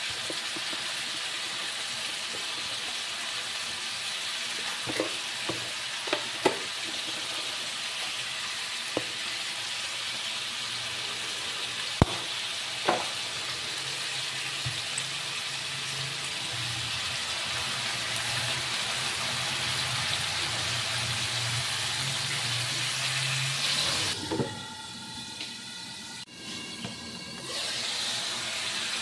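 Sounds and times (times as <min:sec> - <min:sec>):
meat sizzling in a wok: 0:00.0 - 0:29.0.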